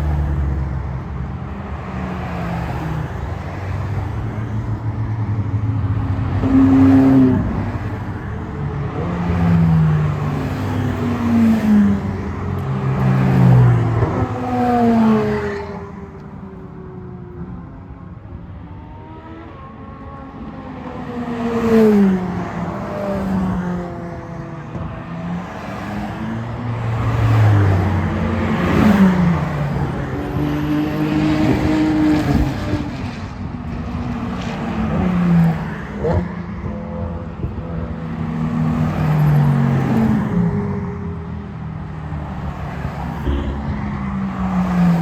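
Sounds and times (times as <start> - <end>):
sports cars revving past: 1.4 - 16.1, 18.9 - 41.2, 41.8 - 45.0.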